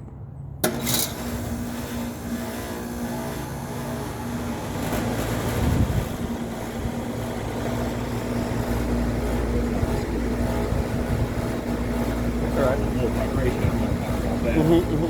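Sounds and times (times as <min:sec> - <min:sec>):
air conditioner humming: 0:00.7 - 0:15.0.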